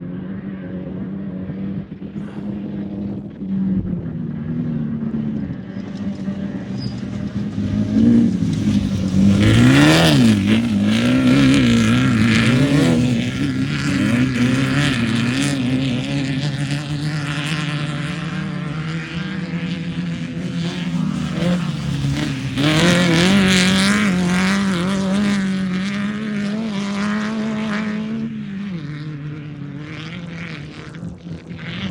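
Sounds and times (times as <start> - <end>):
race car engine revving: 0.0 - 31.9.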